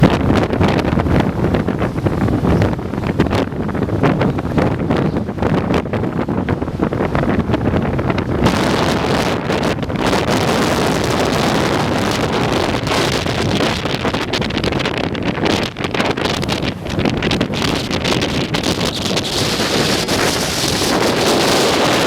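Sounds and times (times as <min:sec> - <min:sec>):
wind gusting across microphone: 0:00.0 - 0:22.0.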